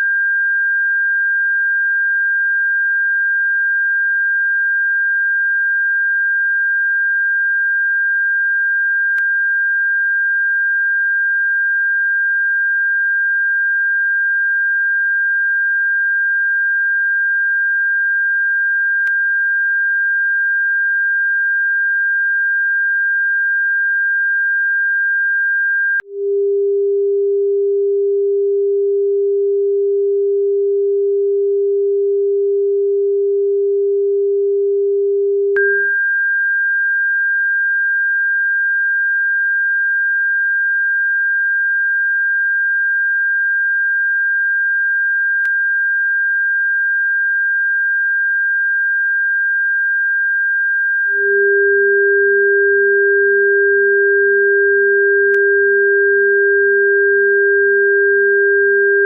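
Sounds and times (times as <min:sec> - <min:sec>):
low sine tone: 0:00.0 - 0:59.0.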